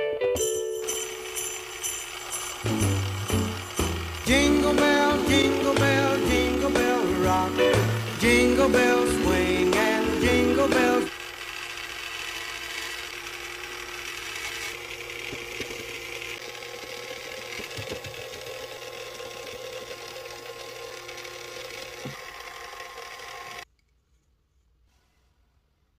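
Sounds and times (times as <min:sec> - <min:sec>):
small motor whirring: 0:00.8 - 0:23.7.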